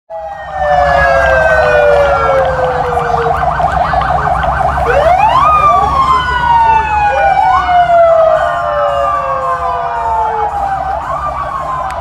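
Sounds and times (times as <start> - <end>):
siren wail: 0.1 - 12.0
siren yelp: 0.1 - 12.0.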